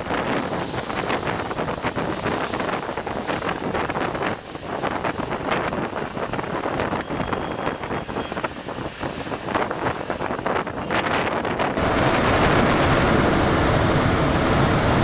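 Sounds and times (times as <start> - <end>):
road noise on wet highway: 0.0 - 15.0
wind buffeting microphone: 0.0 - 15.0.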